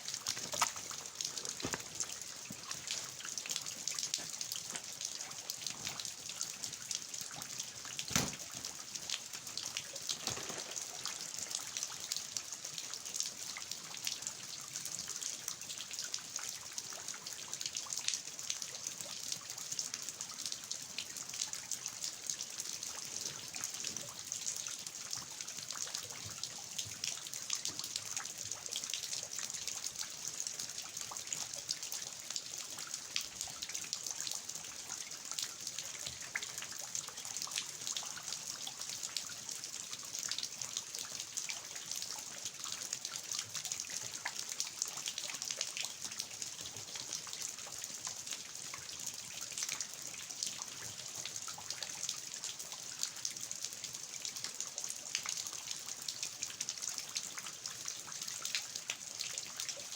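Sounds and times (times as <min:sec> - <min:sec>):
steady rain: 0:00.0 - 0:59.9
water dripping off eaves: 0:00.0 - 0:59.9.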